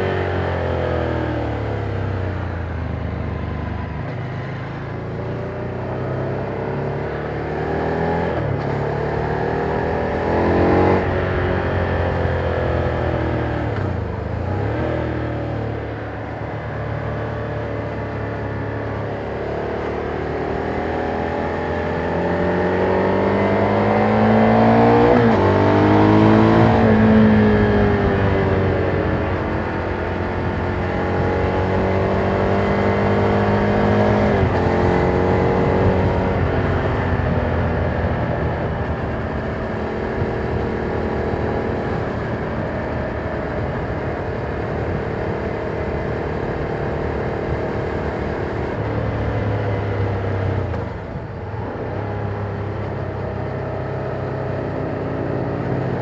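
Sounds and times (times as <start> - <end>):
motorcycle engine revving: 3.4 - 56.0.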